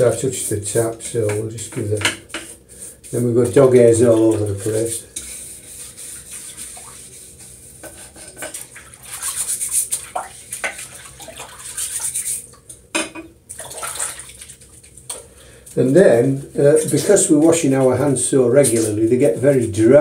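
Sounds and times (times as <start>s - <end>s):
hands washing with water: 0.0s - 19.8s.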